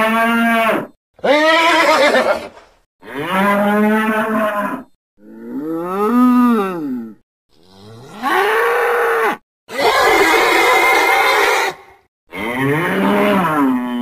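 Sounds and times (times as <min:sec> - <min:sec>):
moo-like creature calls: 0:00.0 - 0:14.0.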